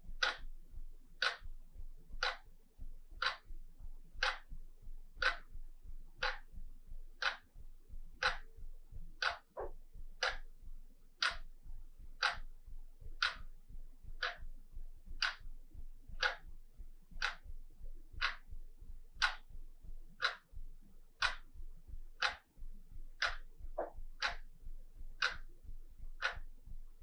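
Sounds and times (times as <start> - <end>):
wall clock ticking: 0.0 - 27.0.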